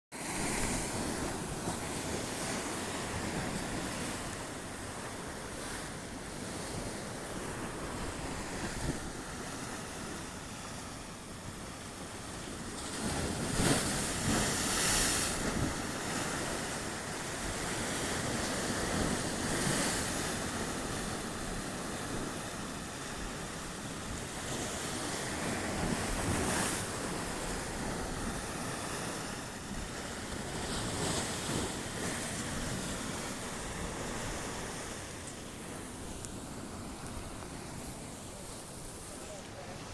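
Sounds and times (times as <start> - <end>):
sea waves washing ashore: 0.1 - 39.9
wind on microphone: 0.2 - 39.9.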